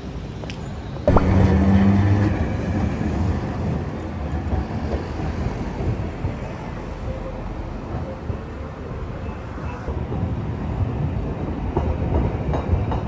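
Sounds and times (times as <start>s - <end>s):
city street traffic: 0.0s - 13.0s
streetcar passing: 0.0s - 13.0s.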